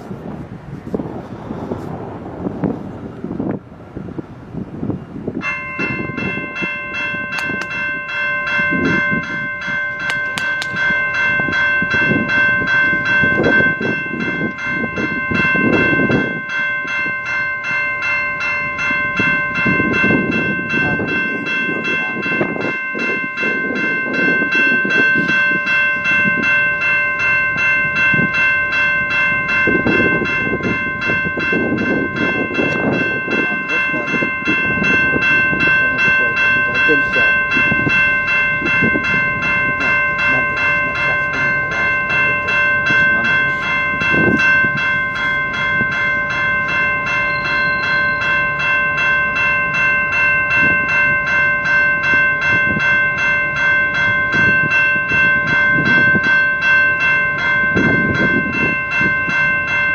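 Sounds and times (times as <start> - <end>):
freight train rumbling: 0.0 - 59.9
railroad crossing bell ringing: 0.0 - 59.9.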